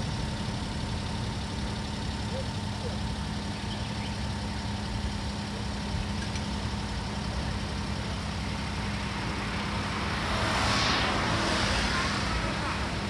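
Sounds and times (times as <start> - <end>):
ferry engine droning: 0.0 - 13.0.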